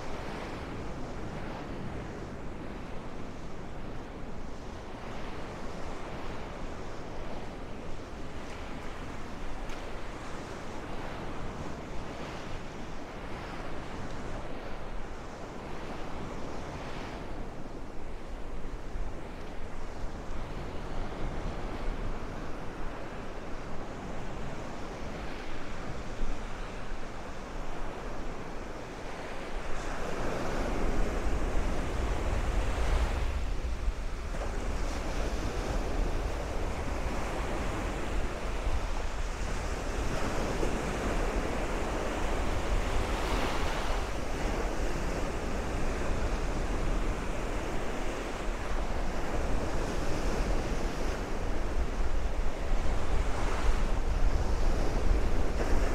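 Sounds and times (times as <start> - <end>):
surf washing onto beach: 0.0 - 55.9
wind buffeting microphone: 0.0 - 55.9.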